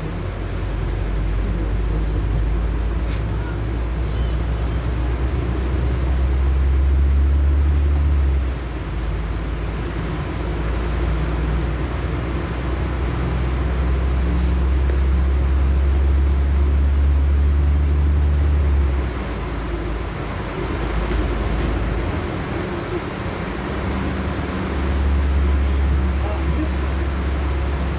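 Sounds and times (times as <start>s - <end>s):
bus engine drone: 0.0s - 27.9s
road noise: 0.0s - 27.9s.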